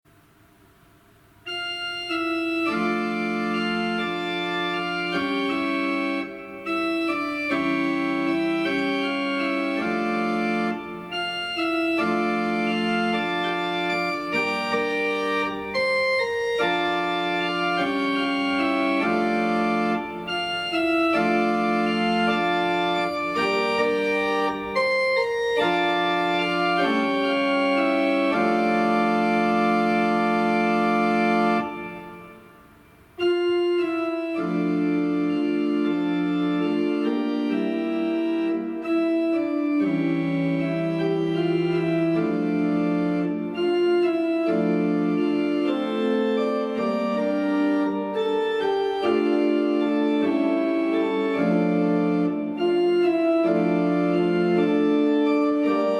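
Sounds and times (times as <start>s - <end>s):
organ playing held chords: 1.4s - 55.9s.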